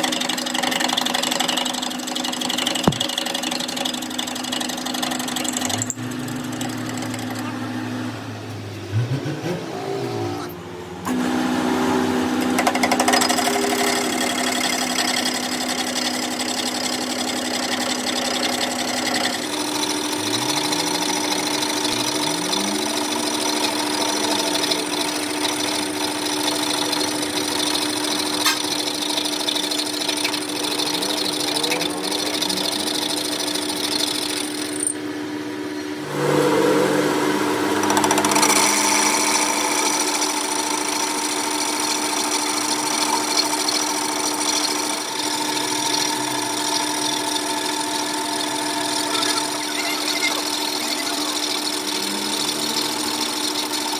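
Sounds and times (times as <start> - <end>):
metal lathe cutting steel: 0.0 - 8.3, 11.0 - 35.1, 36.1 - 53.9.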